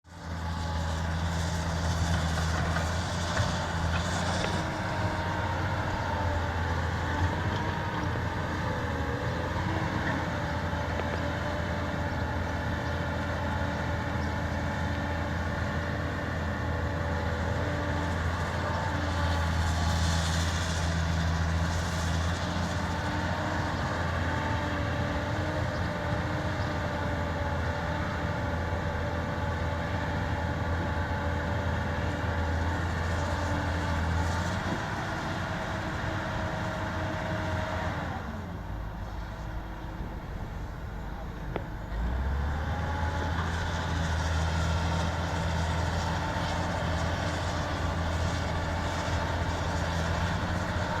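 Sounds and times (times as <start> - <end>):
excavator diesel engine drone: 0.0 - 51.0.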